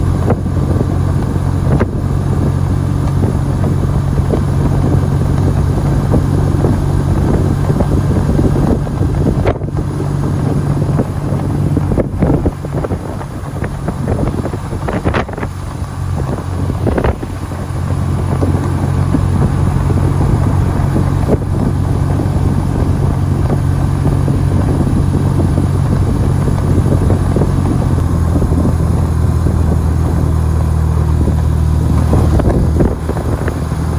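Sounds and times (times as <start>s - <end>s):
motorcycle engine running: 0.0s - 33.9s
wind noise on microphone: 0.0s - 33.9s.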